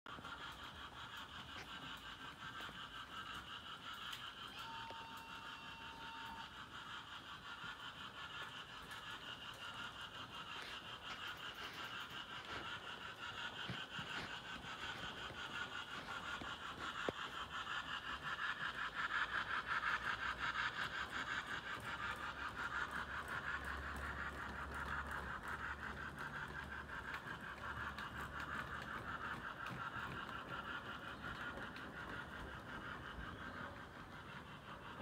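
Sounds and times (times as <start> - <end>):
low motor hum: 0.1 - 35.0
wheels clattering on rails: 0.1 - 35.0.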